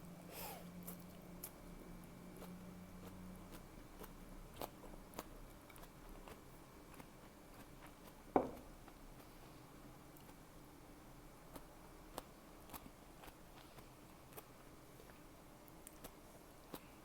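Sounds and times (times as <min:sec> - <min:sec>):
chewing and crunching food: 0:00.8 - 0:10.5, 0:11.5 - 0:17.0.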